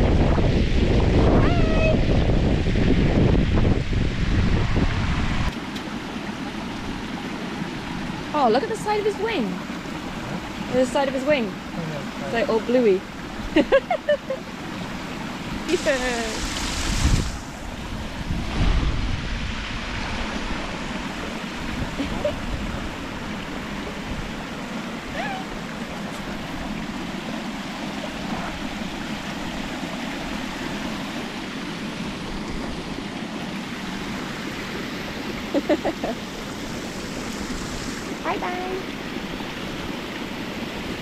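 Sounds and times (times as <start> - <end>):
water rushing over weir: 0.0 - 41.0.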